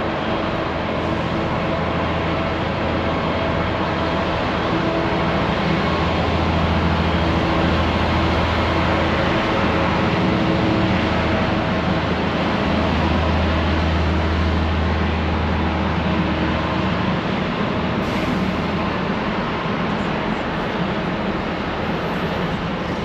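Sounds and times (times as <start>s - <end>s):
diesel train engine drone: 0.0s - 23.0s
rail noise: 0.0s - 23.0s.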